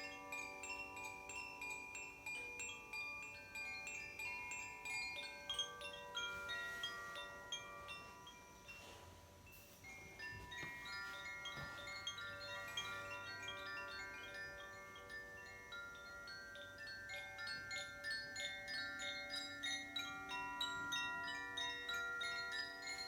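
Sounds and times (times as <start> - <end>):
tuned metal chimes: 0.0 - 23.0.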